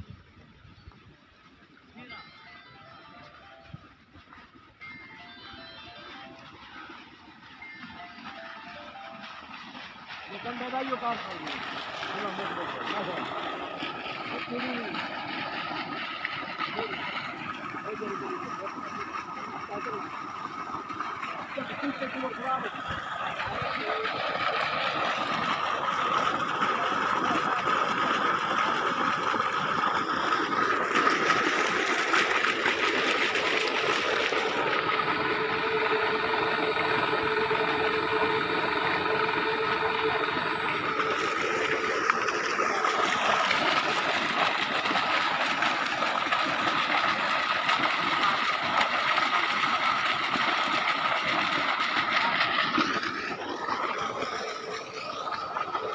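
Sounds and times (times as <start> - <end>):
water pump running with whine: 0.0 - 55.9
water gushing from pipe: 1.3 - 55.9.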